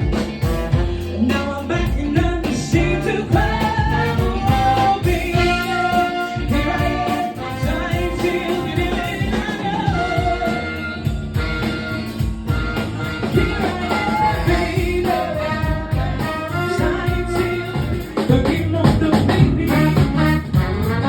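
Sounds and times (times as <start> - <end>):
lead singer: 0.0 - 21.0
soul band music: 0.0 - 21.0.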